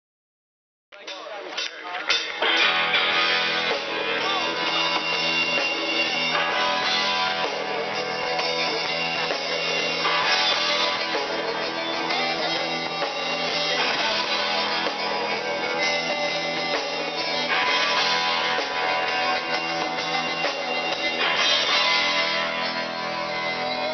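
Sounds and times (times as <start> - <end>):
drum kit: 1.0 - 23.9
electric guitar: 1.6 - 23.9.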